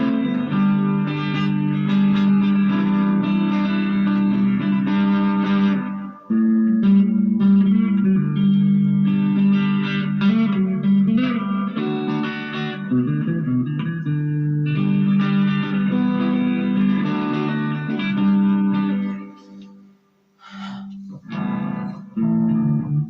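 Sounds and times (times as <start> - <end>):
electric guitar with delay: 0.0 - 23.0.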